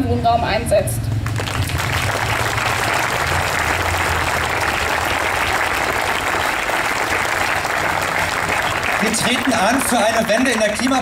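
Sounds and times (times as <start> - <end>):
crowd applauding: 1.2 - 11.0.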